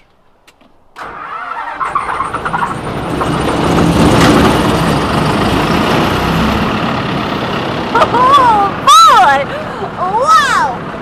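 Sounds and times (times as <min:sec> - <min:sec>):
street sweeper motor running: 0:02.0 - 0:11.0.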